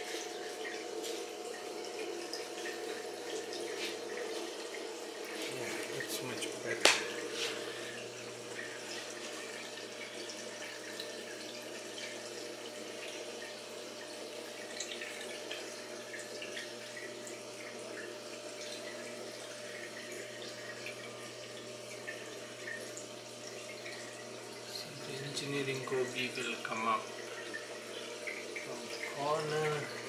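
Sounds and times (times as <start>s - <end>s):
water trickling and bubbling: 0.0s - 30.0s.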